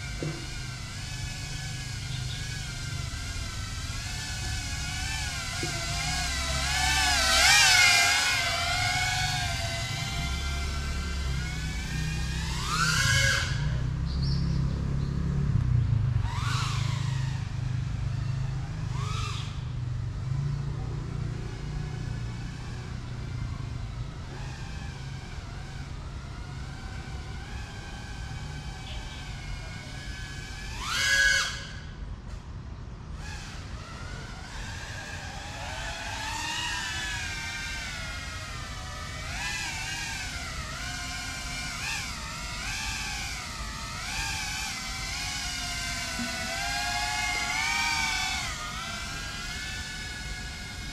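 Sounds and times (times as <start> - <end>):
drone motors whining: 0.0 - 50.9.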